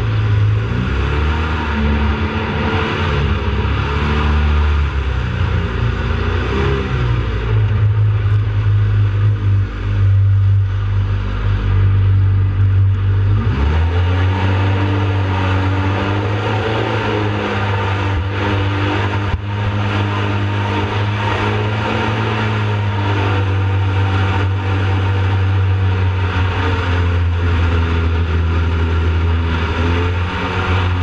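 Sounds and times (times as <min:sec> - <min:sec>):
jet boat engine running hard: 0:00.0 - 0:31.0.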